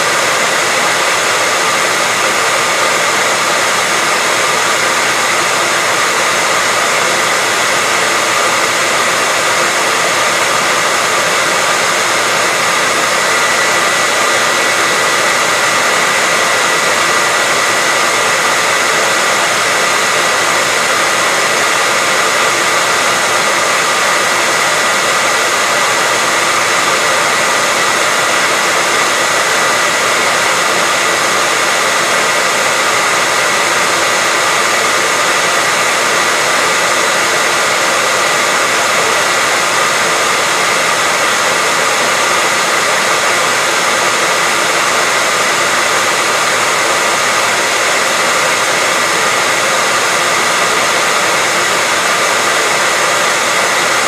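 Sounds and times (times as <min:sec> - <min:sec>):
hairdryer running: 0:00.0 - 0:54.0.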